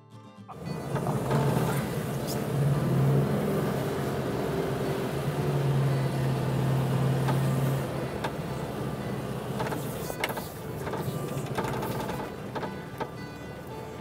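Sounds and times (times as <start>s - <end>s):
van engine droning: 0.5s - 14.0s.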